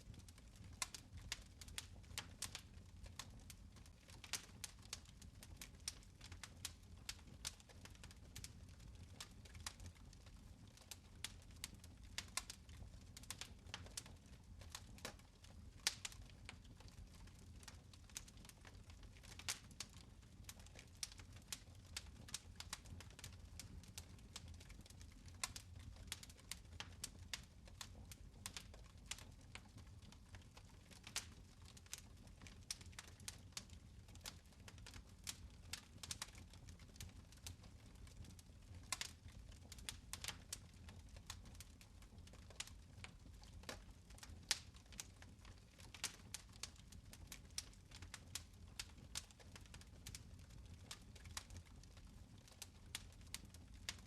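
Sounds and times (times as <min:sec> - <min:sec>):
fire crackling: 0:00.1 - 0:54.0.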